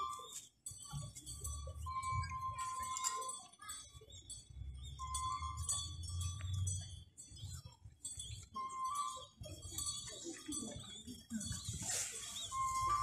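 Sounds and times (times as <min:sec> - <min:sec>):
jingling metal percussion: 0:00.0 - 0:13.0.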